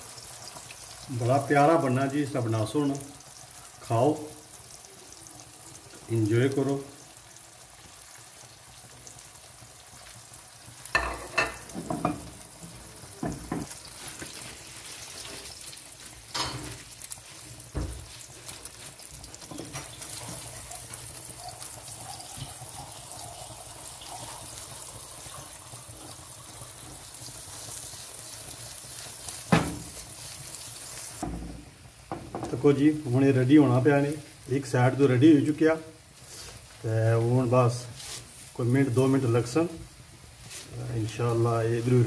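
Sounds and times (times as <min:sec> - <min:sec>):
eggs sizzling in oil: 0:00.0 - 0:42.0.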